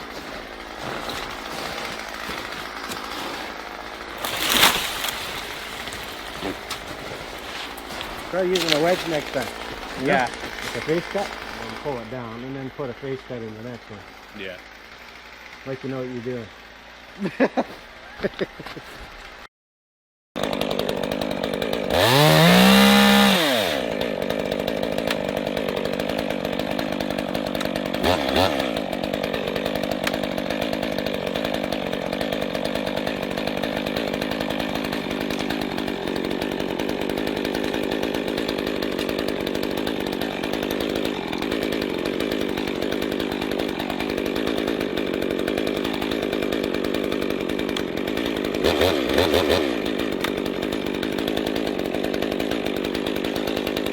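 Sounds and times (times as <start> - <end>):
chainsaw running and revving: 0.0 - 19.4, 20.4 - 53.9.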